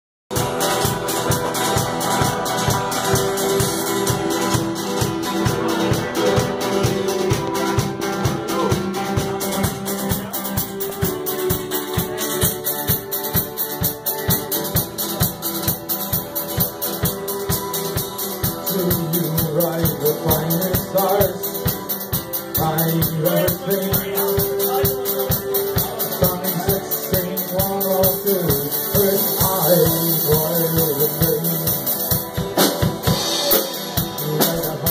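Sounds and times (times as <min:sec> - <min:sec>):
drum kit fast beat: 0:00.3 - 0:34.9
electric and acoustic guitars: 0:00.3 - 0:34.9.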